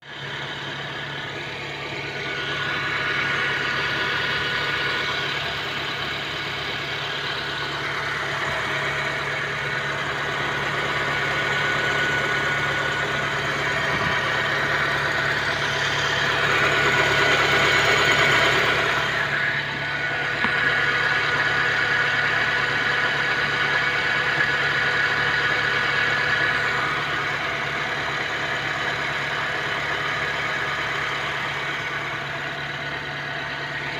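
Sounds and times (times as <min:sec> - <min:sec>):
car engine idling with misfire: 0:00.0 - 0:33.9.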